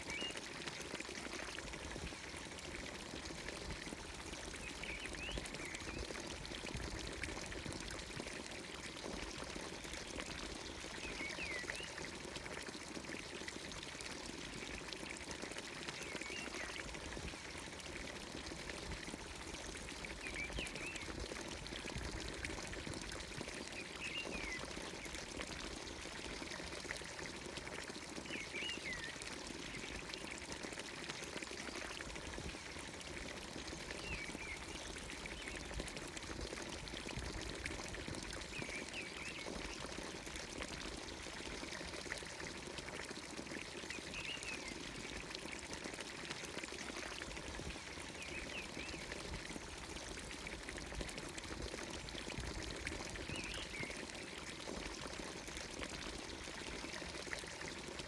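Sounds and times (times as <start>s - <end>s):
water pouring into stone trough: 0.1s - 58.0s.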